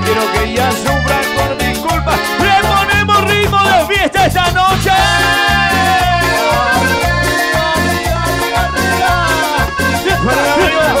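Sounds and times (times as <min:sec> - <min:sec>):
live band latin dance music: 0:00.0 - 0:11.0.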